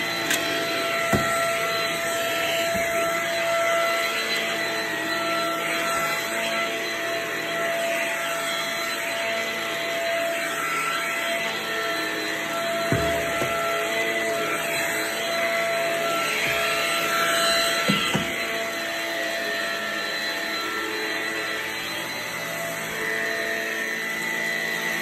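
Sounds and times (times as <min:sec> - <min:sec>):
stick vacuum running on carpet: 0:00.0 - 0:25.0.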